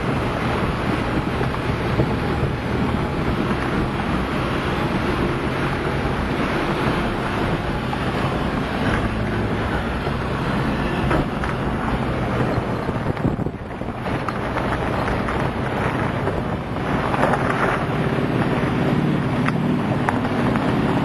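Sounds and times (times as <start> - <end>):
vehicle engine droning: 0.0 - 21.0
wind buffeting microphone: 0.0 - 21.0.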